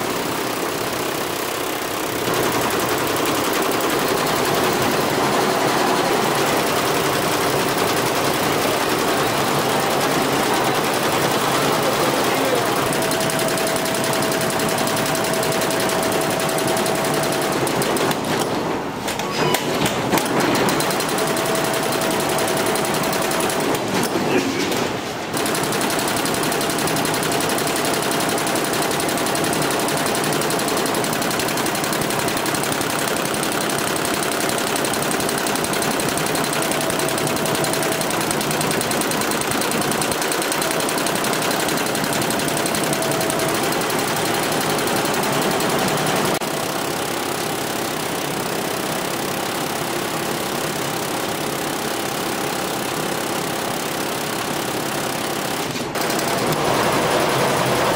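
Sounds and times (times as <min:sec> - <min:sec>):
embroidery machine rattling: 0:00.0 - 0:57.9.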